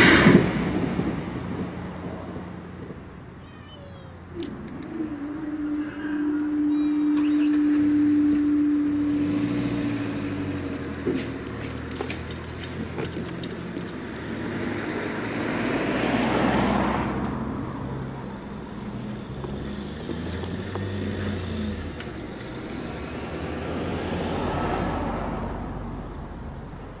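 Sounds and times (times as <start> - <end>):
engine humming: 0.0 - 27.0
vehicles passing: 0.0 - 27.0.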